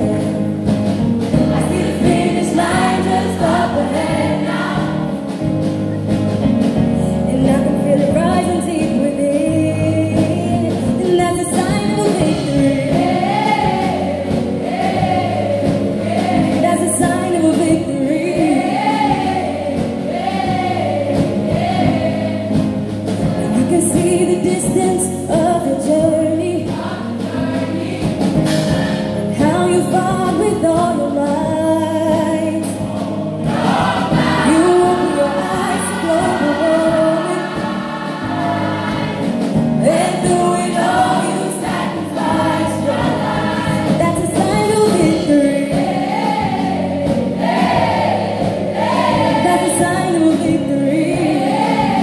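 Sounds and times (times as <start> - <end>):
choir singing gospel: 0.0 - 7.1, 10.1 - 52.0.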